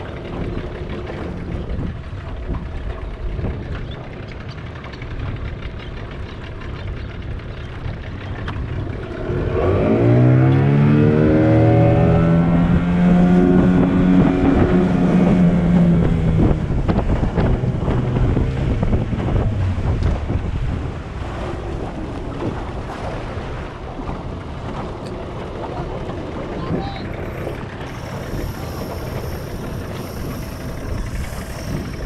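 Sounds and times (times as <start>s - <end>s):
outboard motor revving: 0.0s - 32.0s
water noise: 0.0s - 32.0s
wind: 0.0s - 32.0s.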